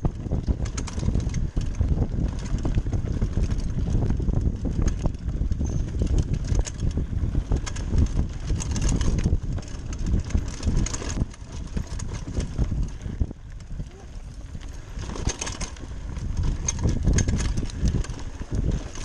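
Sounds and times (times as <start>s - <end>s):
bike rattling over bumps: 0.0s - 19.0s
bike tyre rumble on dirt: 0.0s - 19.0s
wind buffeting microphone: 0.0s - 19.0s.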